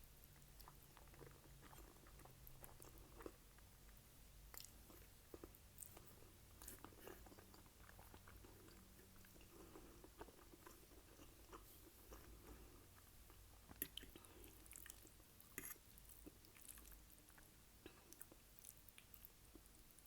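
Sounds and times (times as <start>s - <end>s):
chewing and eating: 0.2s - 20.0s.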